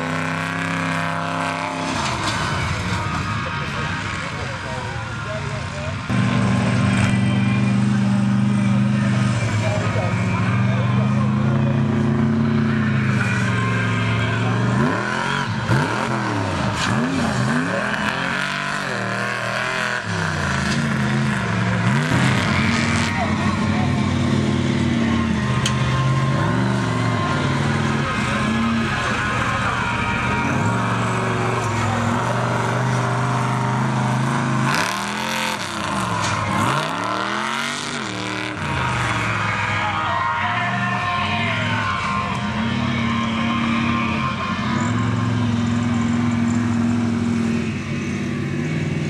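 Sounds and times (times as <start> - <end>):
truck engine revving: 0.0 - 49.0.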